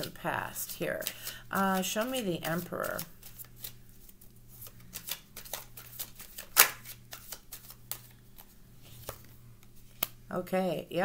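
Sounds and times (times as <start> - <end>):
cards being shuffled: 0.0 - 10.2.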